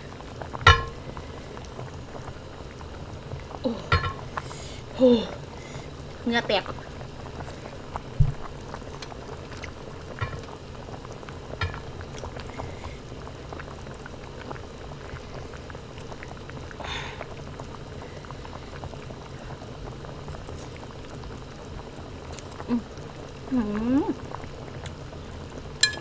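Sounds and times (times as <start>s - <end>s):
broth bubbling in a pot: 0.0s - 26.0s.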